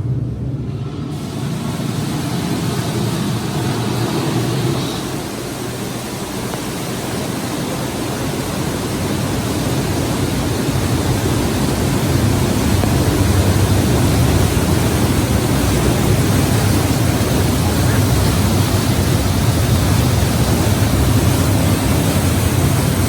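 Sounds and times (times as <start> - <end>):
water rushing roar: 0.0 - 23.0.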